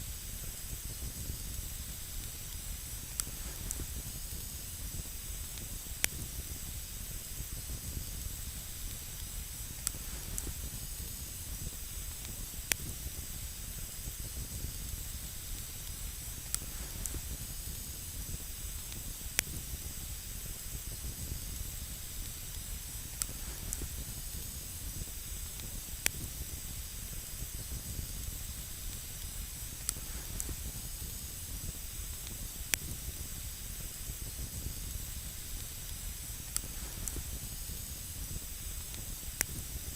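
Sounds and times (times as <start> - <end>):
campfire hissing: 0.0 - 39.9
fire crackling and popping: 0.0 - 39.9.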